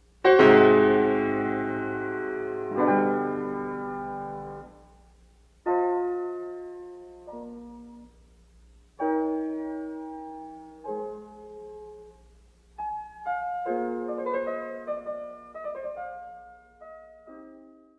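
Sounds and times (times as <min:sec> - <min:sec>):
solo piano music: 0:00.0 - 0:17.9.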